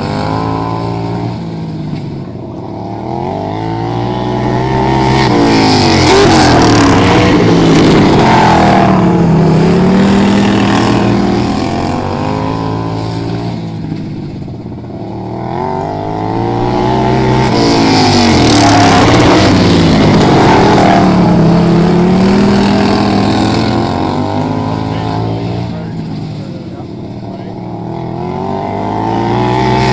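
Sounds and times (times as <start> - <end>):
racing lawnmower engines passing by: 0.0 - 29.9.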